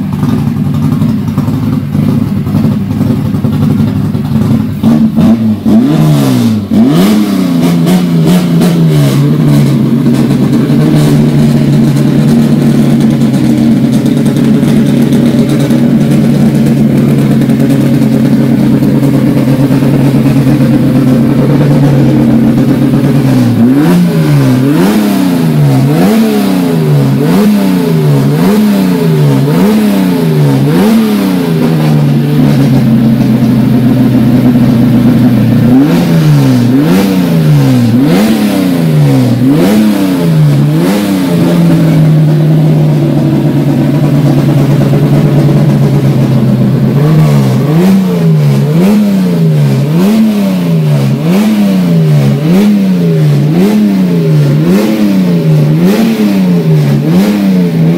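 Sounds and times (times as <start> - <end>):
race engine revving: 4.7 - 57.9.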